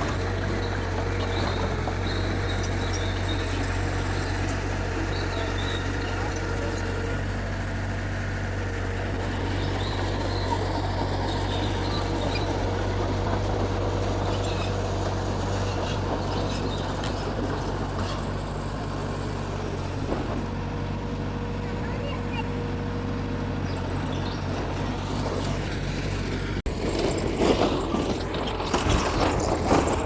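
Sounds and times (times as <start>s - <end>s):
bulldozer diesel engine droning: 0.0s - 30.0s.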